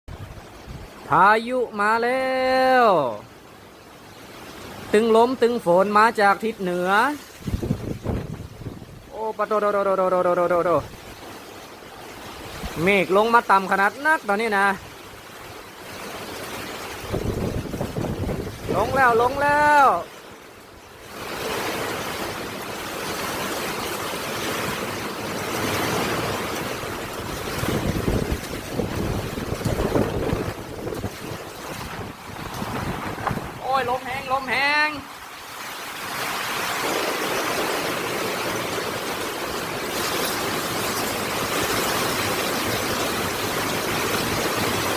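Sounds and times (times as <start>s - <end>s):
strong wind: 0.1s - 1.2s, 7.2s - 9.3s, 10.0s - 13.0s, 14.6s - 44.9s
heavy rain pouring: 0.1s - 44.9s.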